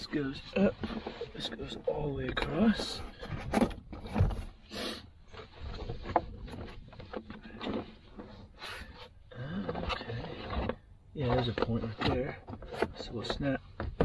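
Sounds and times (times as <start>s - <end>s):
floor mat scraping and rubbing: 0.0s - 14.0s.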